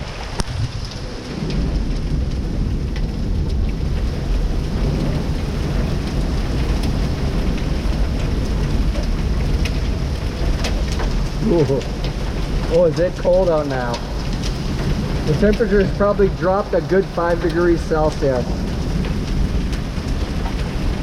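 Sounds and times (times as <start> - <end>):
heavy rain pouring: 0.0 - 21.0
low rumble: 0.0 - 21.0.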